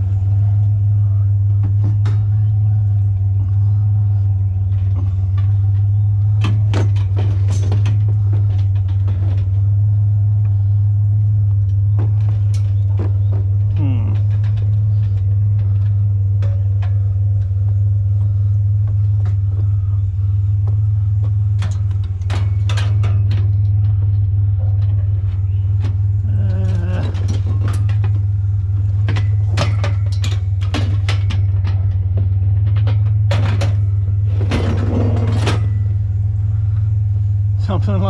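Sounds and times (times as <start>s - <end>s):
truck engine droning: 0.0s - 38.0s.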